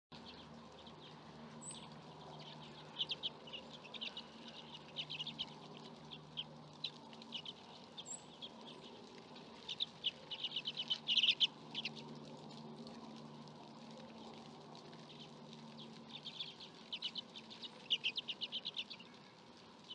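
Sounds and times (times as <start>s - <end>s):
bird chips and chatter: 0.2s - 12.2s, 15.0s - 19.9s.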